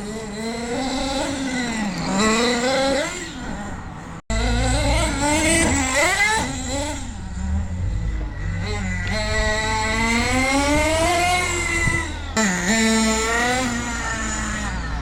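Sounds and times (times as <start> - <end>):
rc car nitro engine revving: 0.0 - 15.0.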